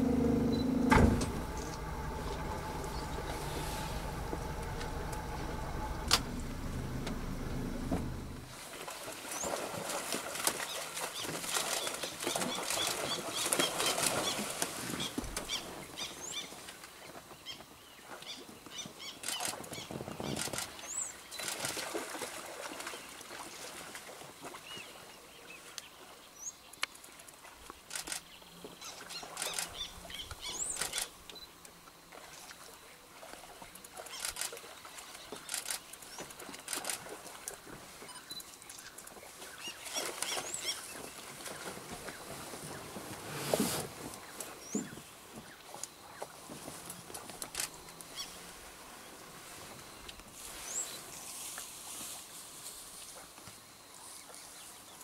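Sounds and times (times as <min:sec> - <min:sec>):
rustling on sandy bank: 0:00.0 - 0:55.0.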